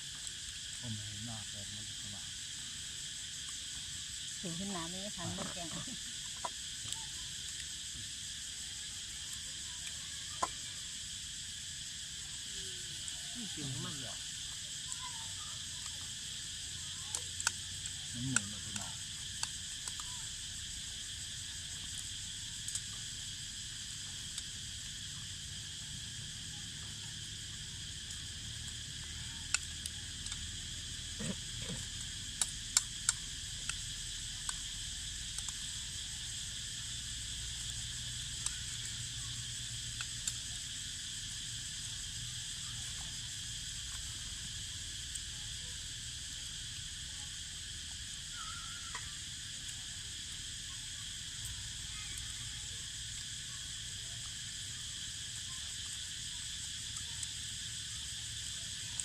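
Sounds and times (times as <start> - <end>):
cicadas singing: 0.0 - 59.0.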